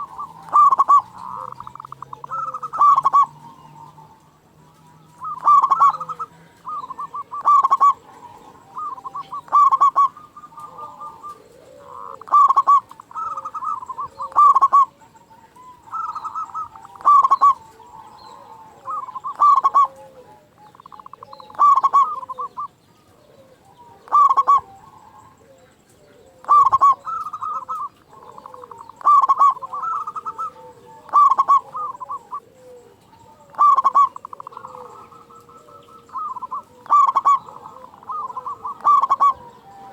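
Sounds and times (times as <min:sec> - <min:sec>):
dove cooing loudly: 0:00.0 - 0:39.9
faint low cooing: 0:00.0 - 0:39.9.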